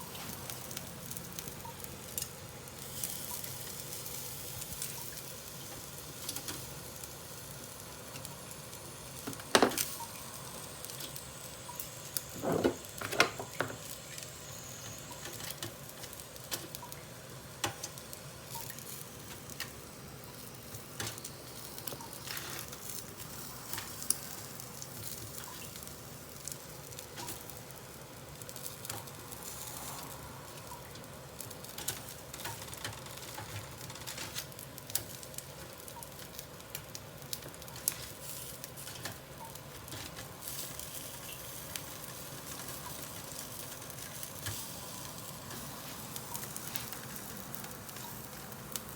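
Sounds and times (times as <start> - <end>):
skewers sizzling on a grill: 0.0 - 48.9.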